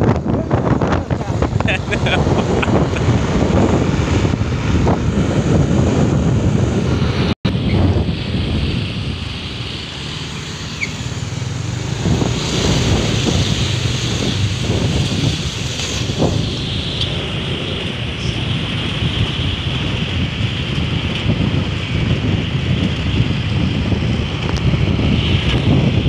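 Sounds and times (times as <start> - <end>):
road noise: 0.0 - 26.0
vehicle engine: 0.0 - 26.0
wind buffeting microphone: 0.0 - 26.0.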